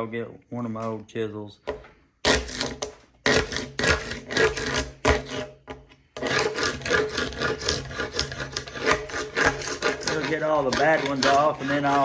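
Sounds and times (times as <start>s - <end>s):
paint scraper scraping wood: 2.2s - 12.0s.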